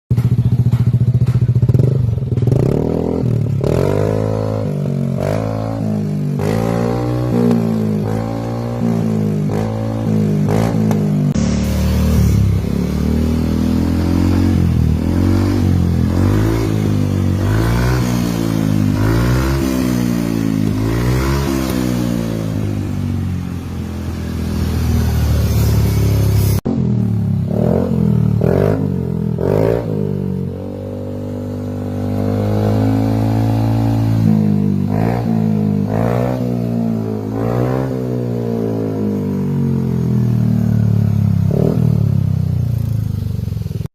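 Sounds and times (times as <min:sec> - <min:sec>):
scooter engine revving: 0:00.1 - 0:43.8.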